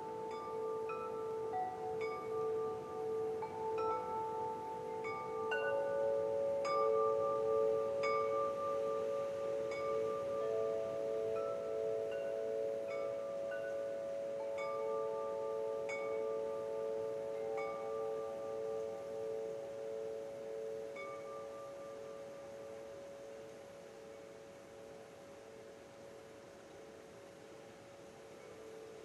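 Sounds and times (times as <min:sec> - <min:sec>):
wind chimes ringing: 0:00.0 - 0:29.0.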